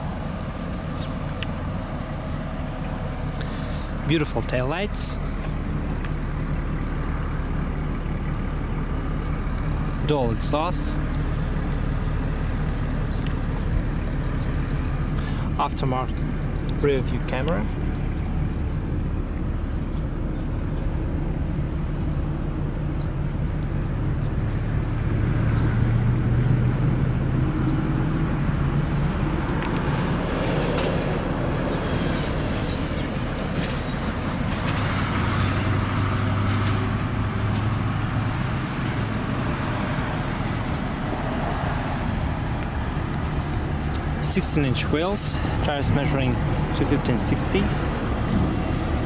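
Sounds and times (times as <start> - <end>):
car engine idling: 0.0 - 49.0
traffic noise: 0.0 - 49.0.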